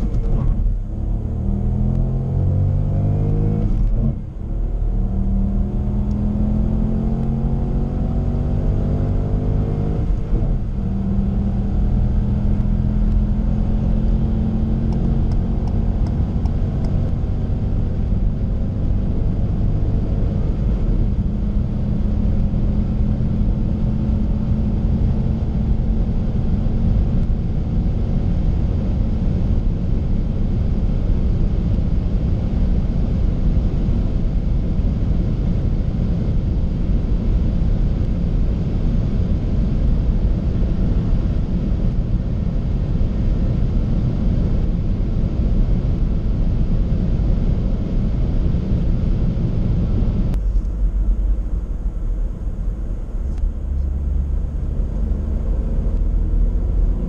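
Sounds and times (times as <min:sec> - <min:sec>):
car engine at full throttle: 0:00.0 - 0:57.0.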